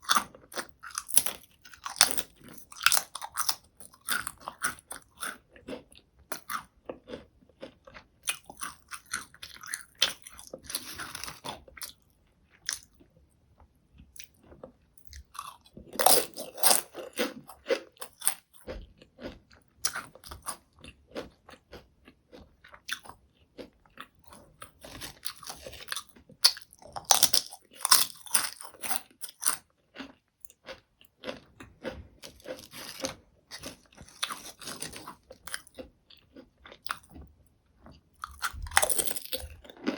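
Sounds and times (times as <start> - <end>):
potato chips crunching: 0.0 - 13.0, 14.0 - 37.2, 37.8 - 39.9.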